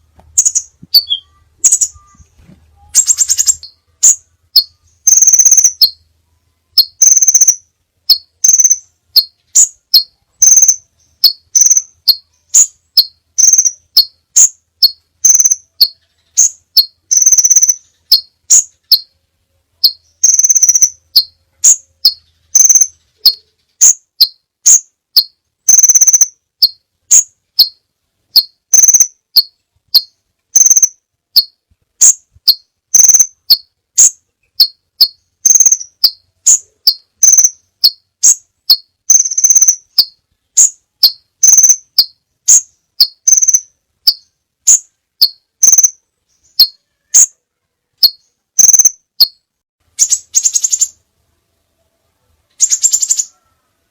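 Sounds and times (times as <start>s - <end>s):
buzzy bird trills: 0.0s - 6.1s, 6.7s - 19.2s, 19.8s - 47.4s, 48.0s - 51.0s, 52.6s - 53.9s
bird chipping calls: 0.2s - 6.0s, 6.7s - 19.1s, 19.8s - 27.8s, 28.4s - 47.4s, 48.0s - 49.4s, 50.0s - 51.0s, 52.6s - 53.4s.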